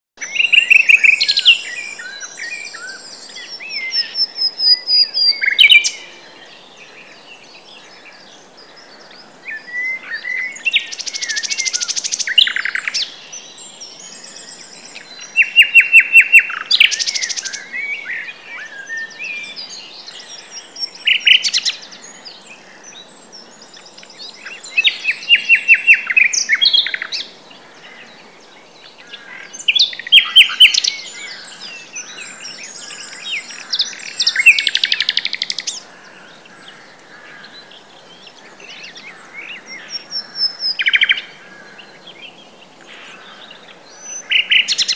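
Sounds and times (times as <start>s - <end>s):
nightingale singing: 0.2s - 44.9s.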